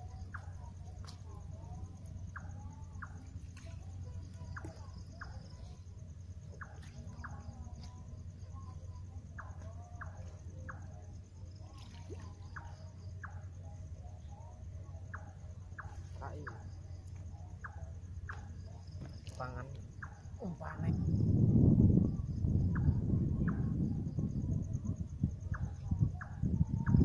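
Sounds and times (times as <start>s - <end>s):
high insect trill: 0.0s - 27.0s.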